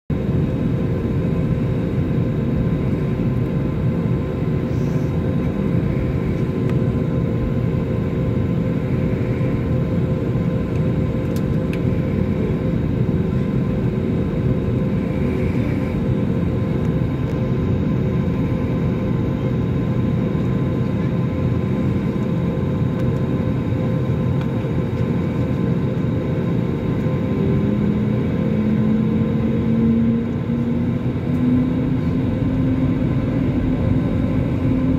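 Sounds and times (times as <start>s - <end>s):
jet airliner cabin rumble: 0.1s - 34.9s.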